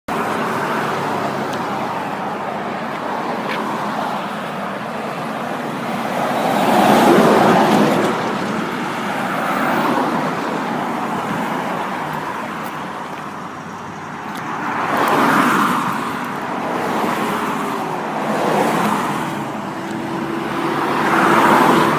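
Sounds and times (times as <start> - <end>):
road traffic passing: 0.1 - 21.9.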